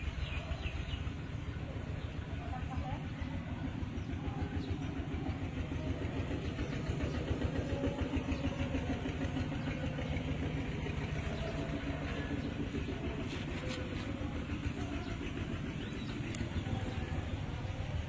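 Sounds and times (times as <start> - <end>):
tractor diesel engine idling: 0.0 - 18.0.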